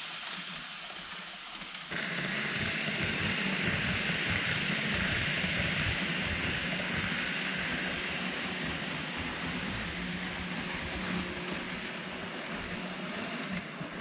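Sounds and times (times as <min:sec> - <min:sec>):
model train wheels rolling on rails: 0:00.0 - 0:14.0
low motor hum: 0:02.6 - 0:14.0.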